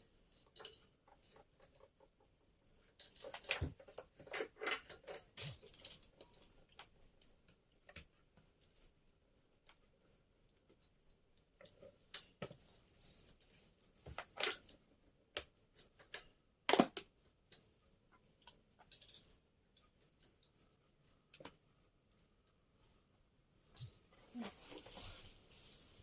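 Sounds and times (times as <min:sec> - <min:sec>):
small hard parts clicking and clattering: 0:00.0 - 0:09.0, 0:09.6 - 0:21.6.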